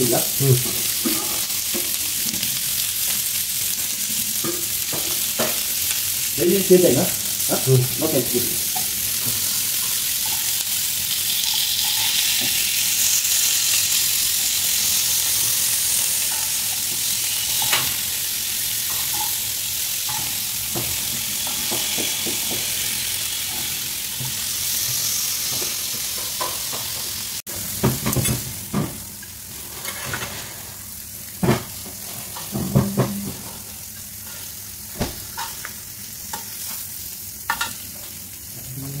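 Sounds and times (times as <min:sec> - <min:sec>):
food sizzling in a frying pan: 0:00.0 - 0:39.0.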